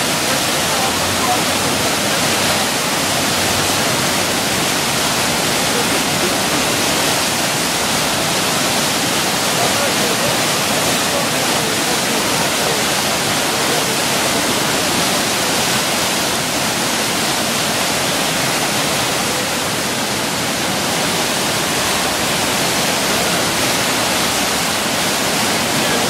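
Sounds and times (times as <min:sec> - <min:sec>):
churning whitewater: 0:00.0 - 0:26.0.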